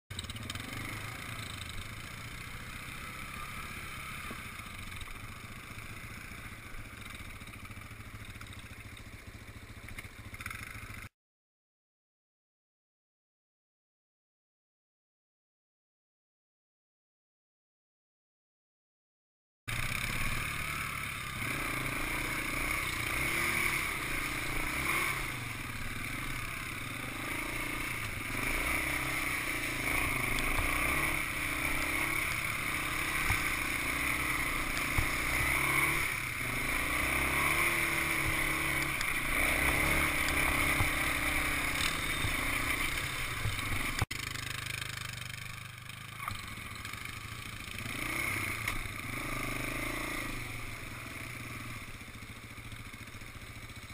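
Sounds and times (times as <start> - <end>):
atv engine revving: 0.1 - 11.1, 19.7 - 53.9.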